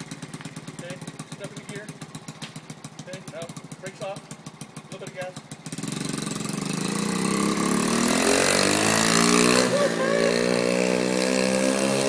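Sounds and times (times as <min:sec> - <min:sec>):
mini bike engine revving: 0:00.0 - 0:12.0.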